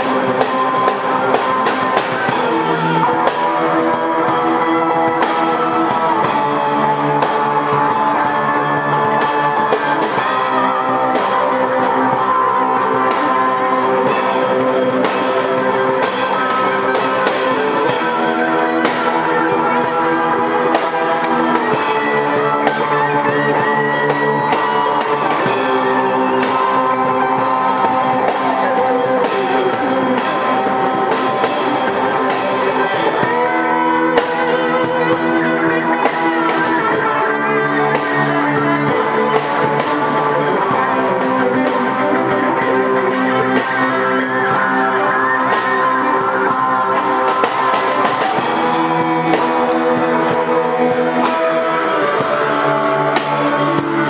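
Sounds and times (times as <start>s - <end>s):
drum kit beat: 0.0s - 54.0s
electric guitars: 0.0s - 54.0s.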